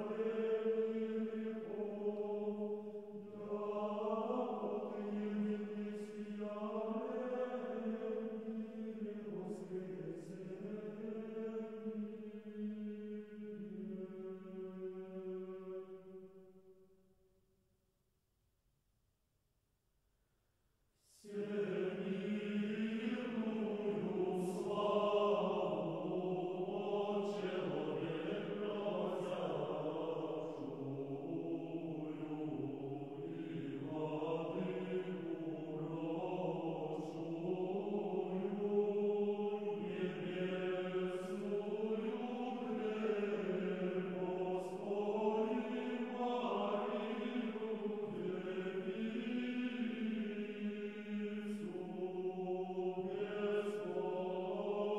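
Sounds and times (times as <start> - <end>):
slow vocal chant: 0.0 - 16.5, 21.0 - 54.9.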